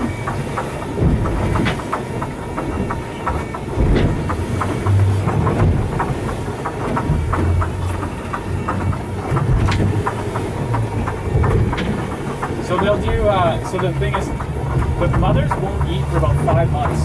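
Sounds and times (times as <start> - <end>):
water slapping hull: 0.0 - 17.0
wind and motor rumble: 0.0 - 17.0.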